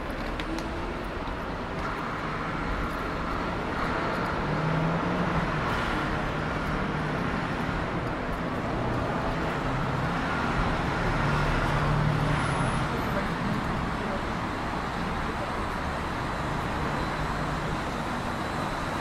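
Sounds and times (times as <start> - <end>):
street traffic driving past: 0.0 - 19.0.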